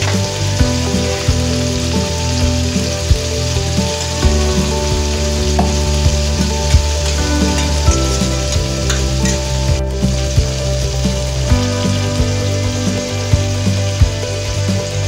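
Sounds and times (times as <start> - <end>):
oil popping: 0.0 - 15.0
vegetables sizzling in oil: 0.0 - 15.0.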